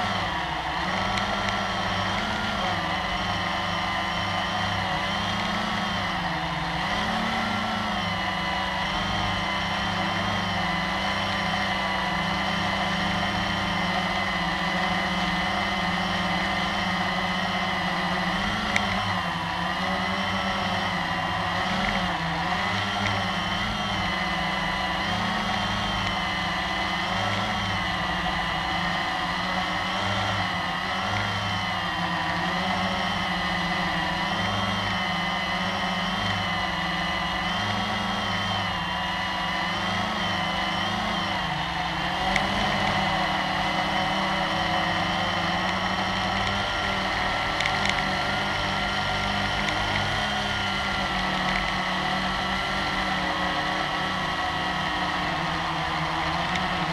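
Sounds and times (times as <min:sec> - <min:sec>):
quadcopter motors whining: 0:00.0 - 0:56.9.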